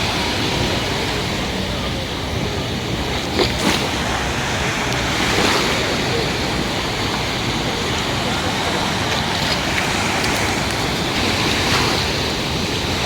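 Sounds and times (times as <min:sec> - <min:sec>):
sea surf washing onto beach: 0:00.0 - 0:13.0.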